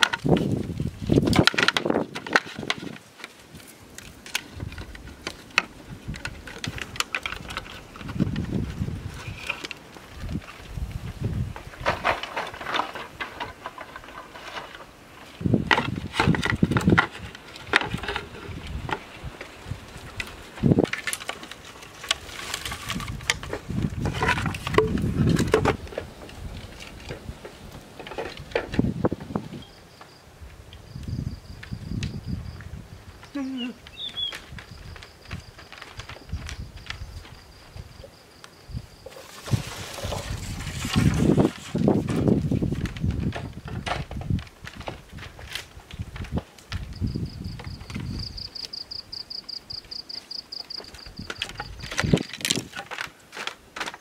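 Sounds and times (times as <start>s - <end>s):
bamboo cracking and clicking: 0.0s - 10.8s, 11.5s - 29.0s, 31.5s - 54.0s
bamboo rustling: 0.0s - 54.0s.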